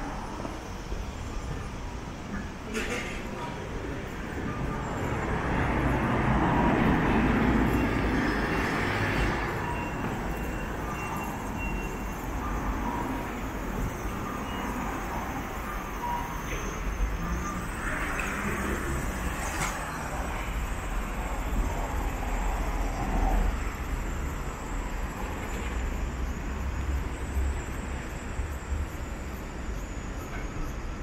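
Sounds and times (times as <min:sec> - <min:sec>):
city street traffic: 0:00.0 - 0:31.0.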